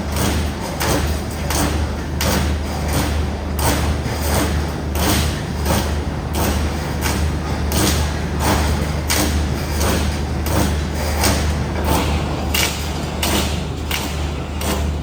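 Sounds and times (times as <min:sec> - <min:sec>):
welding machine electrical hum: 0:00.0 - 0:15.0.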